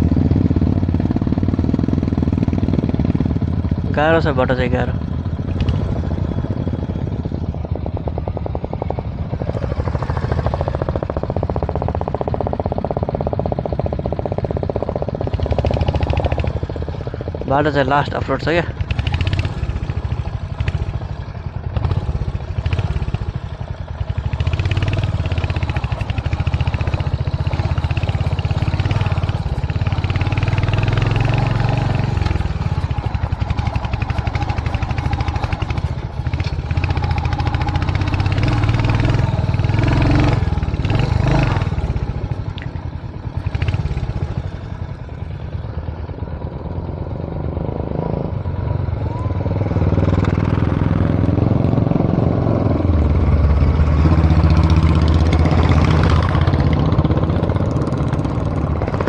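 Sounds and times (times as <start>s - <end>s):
motorcycle engine labouring: 0.0s - 59.0s.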